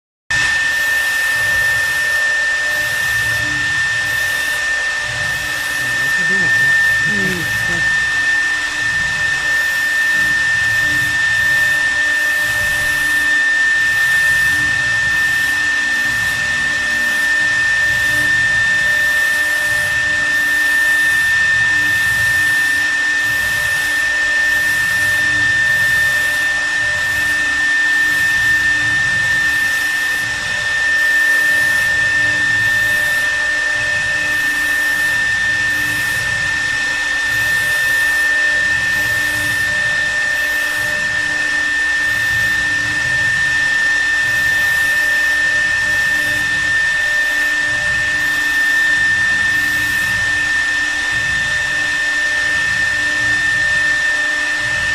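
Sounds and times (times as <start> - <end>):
wood router spindle whine: 0.3 - 54.9
router cutting wood hiss: 0.4 - 54.9.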